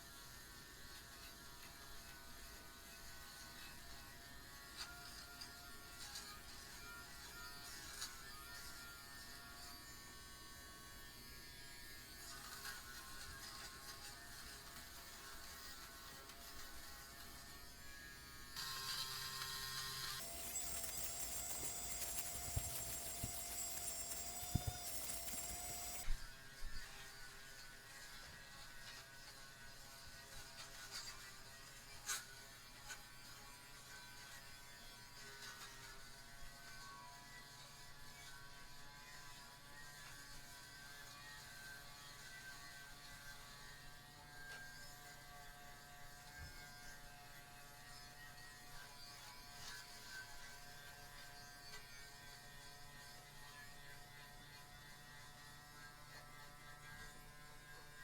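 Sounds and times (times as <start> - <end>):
small electric motor humming: 0.0 - 58.0.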